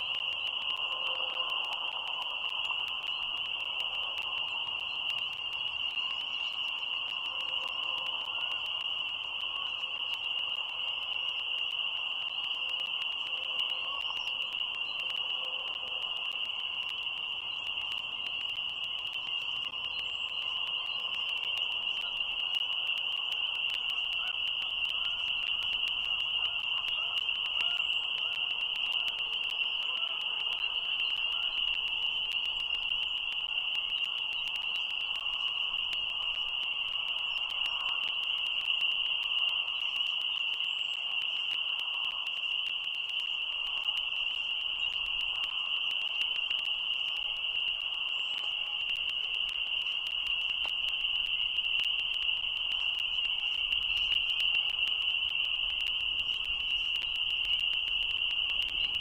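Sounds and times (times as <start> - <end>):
frog chorus trilling: 0.0 - 59.0.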